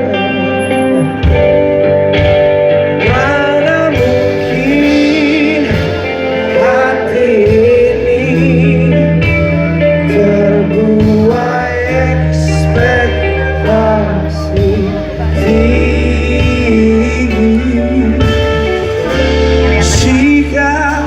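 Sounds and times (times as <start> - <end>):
guitar accompaniment: 0.0 - 21.0
person singing: 0.0 - 21.0
sustained low notes: 0.0 - 21.0.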